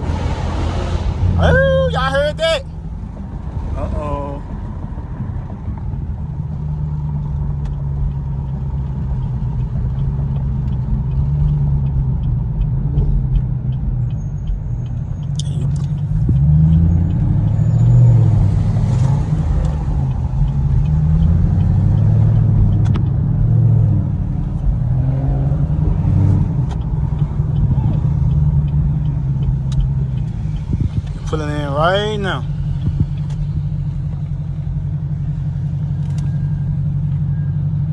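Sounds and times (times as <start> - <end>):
car engine and exhaust drone: 0.0 - 37.9.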